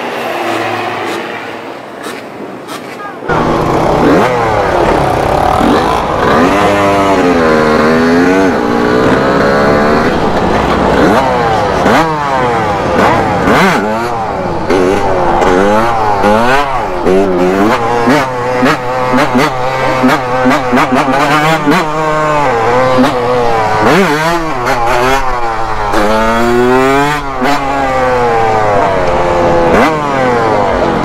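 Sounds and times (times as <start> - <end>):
dirt bike engine revving: 3.3 - 31.0.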